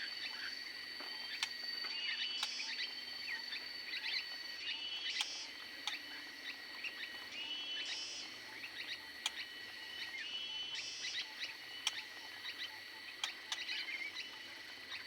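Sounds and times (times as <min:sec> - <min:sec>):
small birds chirping: 0:01.1 - 0:15.0.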